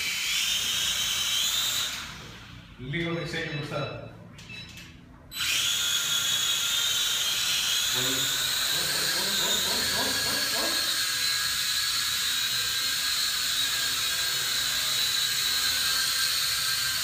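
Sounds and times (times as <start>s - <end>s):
toy quadcopter motors whining: 0.0s - 2.5s, 5.3s - 17.0s.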